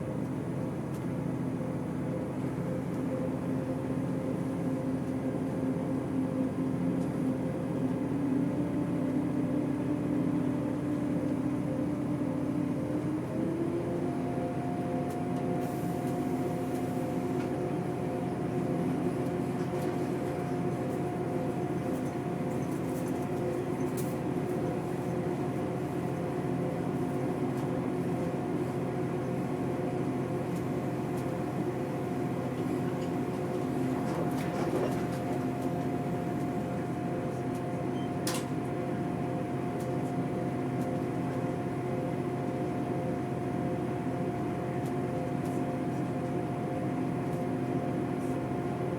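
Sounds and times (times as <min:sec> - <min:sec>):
constant humming tones: 0:00.0 - 0:48.9.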